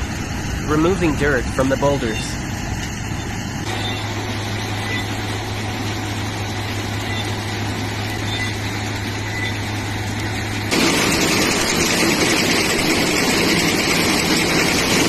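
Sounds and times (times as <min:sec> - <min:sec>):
constant low hum: 0:00.0 - 0:15.0
mechanical drone: 0:00.0 - 0:15.0.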